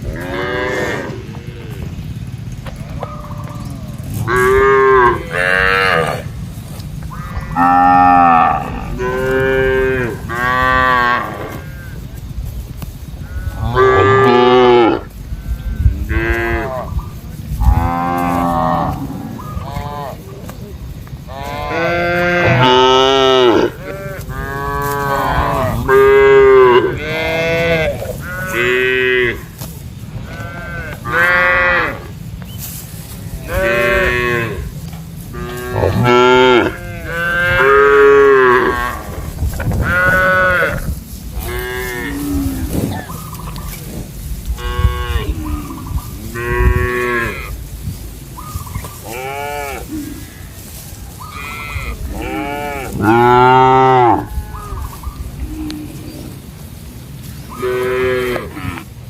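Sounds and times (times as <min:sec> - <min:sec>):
cows mooing: 0:00.0 - 0:12.2, 0:13.2 - 0:20.6, 0:21.2 - 0:32.3, 0:33.1 - 0:47.7, 0:48.5 - 0:56.7, 0:57.3 - 0:59.0.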